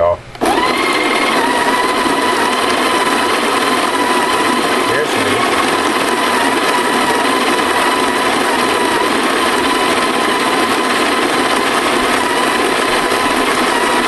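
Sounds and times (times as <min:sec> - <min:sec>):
coffee grinder motor whining: 0:00.4 - 0:14.0.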